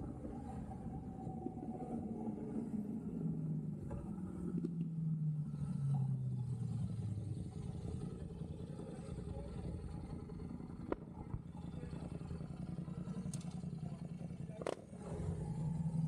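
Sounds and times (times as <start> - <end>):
low road rumble: 0.0 - 16.0.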